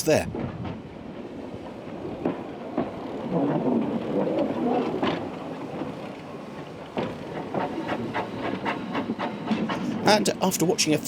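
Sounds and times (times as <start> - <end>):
steam locomotive rumble: 0.0 - 11.0.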